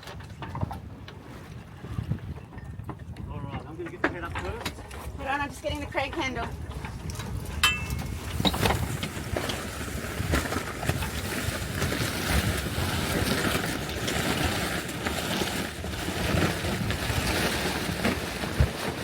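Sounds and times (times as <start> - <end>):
water rushing along hull: 0.0 - 19.0
wind buffeting microphone: 0.0 - 19.0.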